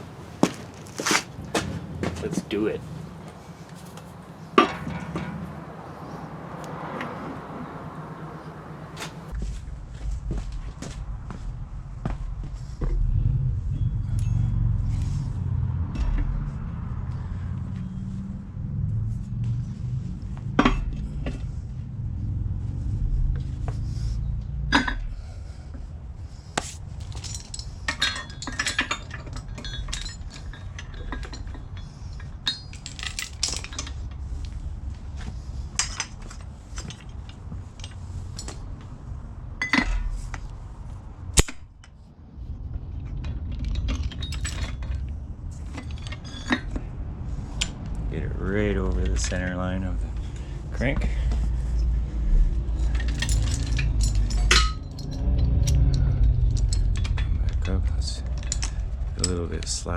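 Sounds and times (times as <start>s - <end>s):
low steady rumble: 0.0s - 59.9s
metal parts and tools clinking: 0.4s - 7.2s, 13.6s - 21.7s, 23.5s - 42.1s, 42.8s - 59.9s.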